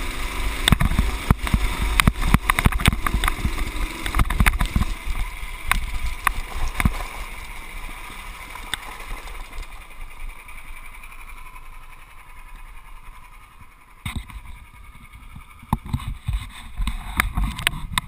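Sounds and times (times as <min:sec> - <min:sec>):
muffled go-kart engine running: 0:00.0 - 0:18.0.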